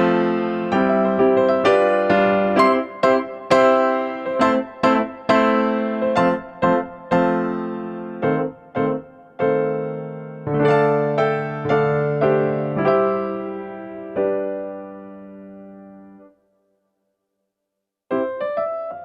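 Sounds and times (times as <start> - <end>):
electric piano melody: 0.0 - 16.4, 18.1 - 19.0.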